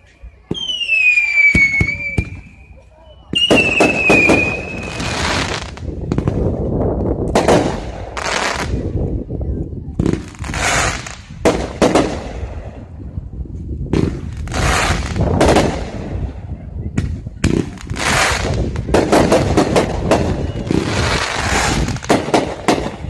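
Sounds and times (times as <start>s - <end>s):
firework crackling and hissing: 0.0s - 9.3s, 10.0s - 13.2s, 13.9s - 23.0s
firework bangs: 0.4s - 2.7s, 3.3s - 6.6s, 7.3s - 9.0s, 10.0s - 12.9s, 13.9s - 23.0s.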